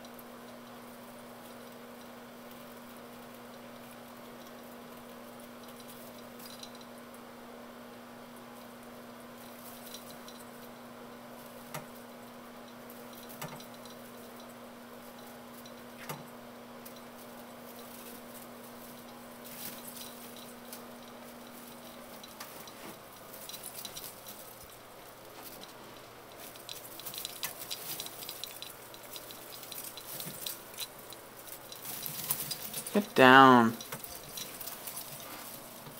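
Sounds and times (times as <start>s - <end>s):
tree branches and ornaments rustling: 0.4s - 7.2s, 8.5s - 35.9s.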